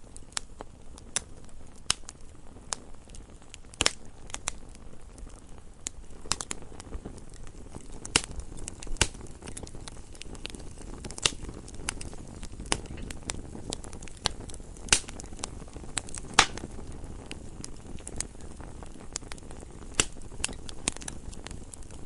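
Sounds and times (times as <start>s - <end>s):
campfire crackling and popping: 0.0s - 22.0s
low rush of flames: 0.0s - 22.0s.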